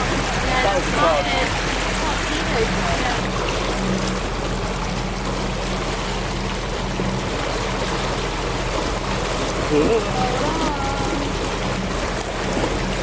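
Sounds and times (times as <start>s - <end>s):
boat engine humming: 0.0s - 13.0s
water rushing: 0.0s - 13.0s.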